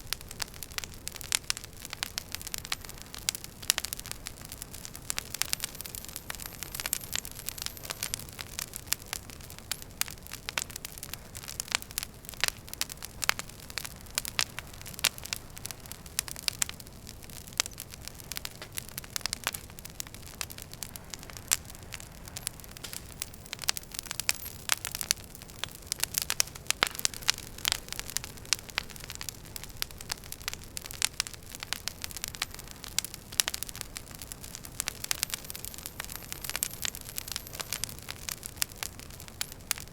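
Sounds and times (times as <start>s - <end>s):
wood fire crackling in a fireplace: 0.0s - 39.9s.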